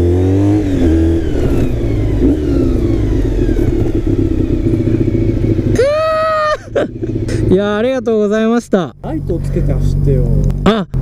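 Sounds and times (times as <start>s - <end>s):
motorcycle engine idling: 1.1s - 11.0s.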